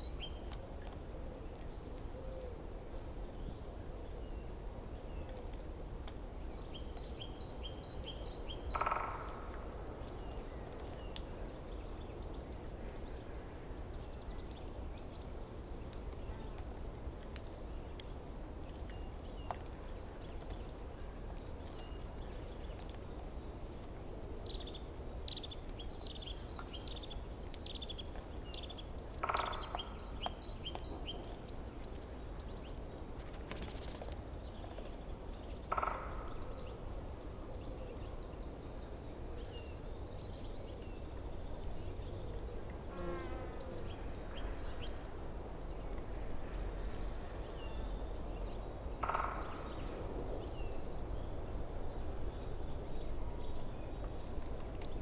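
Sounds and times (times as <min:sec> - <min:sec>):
songbirds singing: 0:06.4 - 0:16.8, 0:17.5 - 0:55.0.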